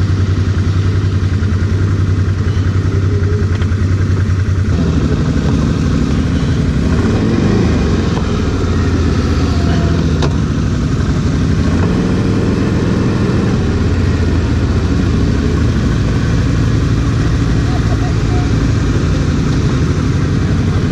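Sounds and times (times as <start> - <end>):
quad bike engine running: 0.0 - 20.9.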